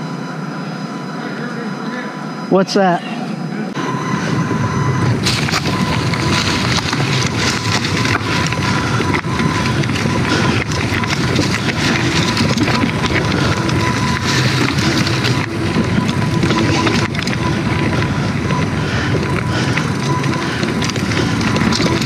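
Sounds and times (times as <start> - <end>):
bike tyre rumble and rattling: 3.8 - 22.0
wind noise on microphone: 3.8 - 22.0.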